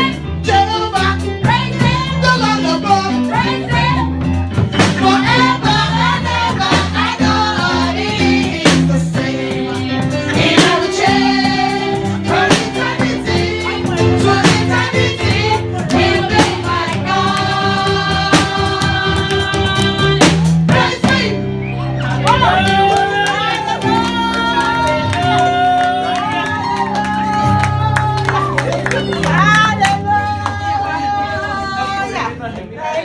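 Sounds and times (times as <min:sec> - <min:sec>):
bass line: 0:00.0 - 0:32.6
gospel singing: 0:00.0 - 0:33.0.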